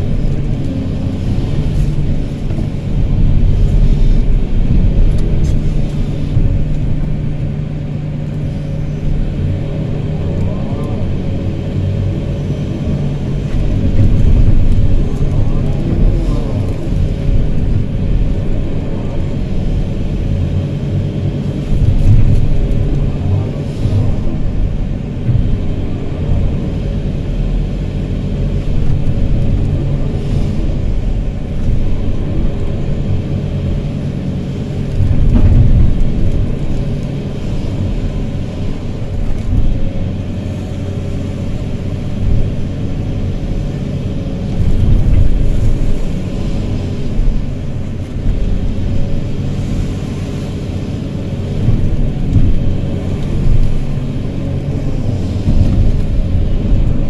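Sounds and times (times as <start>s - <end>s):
excavator diesel engine rumbling: 0.0s - 57.0s.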